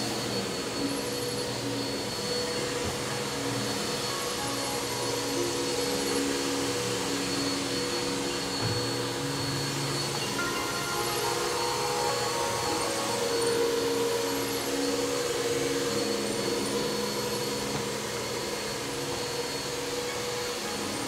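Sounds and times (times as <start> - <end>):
vacuum cleaner running on carpet: 0.0 - 21.0.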